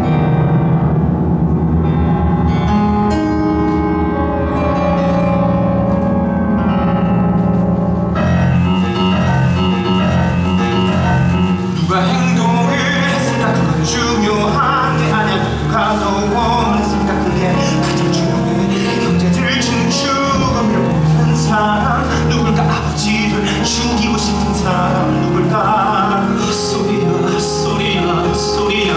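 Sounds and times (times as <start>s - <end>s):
live band music led by piano: 0.0s - 28.9s.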